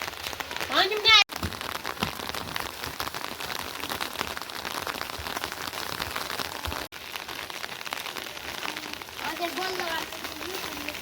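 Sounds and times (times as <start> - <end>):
rain drops pattering: 0.0 - 11.0.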